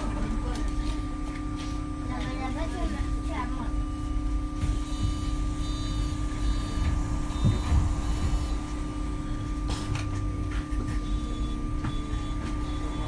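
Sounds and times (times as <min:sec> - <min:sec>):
bus engine whine and rumble: 0:00.0 - 0:13.0.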